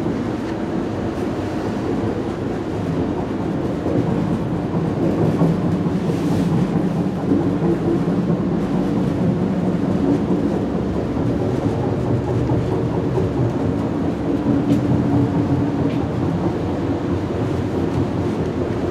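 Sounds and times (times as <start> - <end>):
train wheels rumbling: 0.0 - 18.9.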